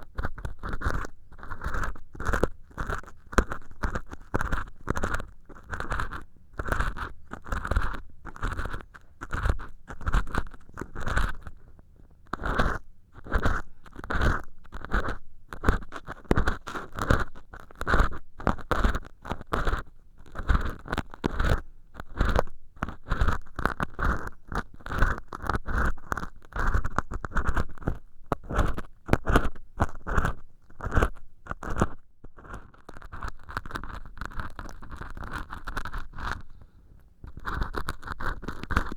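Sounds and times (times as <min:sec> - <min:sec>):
ear pick scratching: 0:00.0 - 0:11.6, 0:12.3 - 0:38.9.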